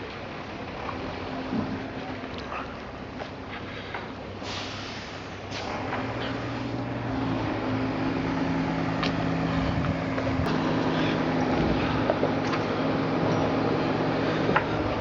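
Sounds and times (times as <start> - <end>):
boat engine humming: 0.0 - 15.0
wind: 0.0 - 15.0.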